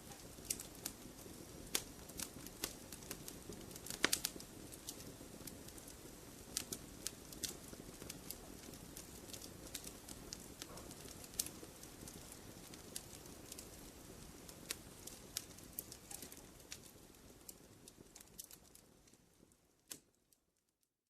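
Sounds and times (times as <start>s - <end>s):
wood fire crackling: 0.0s - 20.8s.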